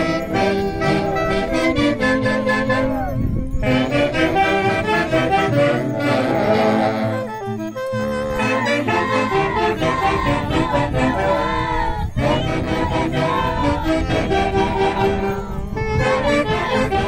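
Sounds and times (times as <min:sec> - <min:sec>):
band playing dance tune: 0:00.0 - 0:17.0
saxophones in unison melody: 0:00.0 - 0:17.0.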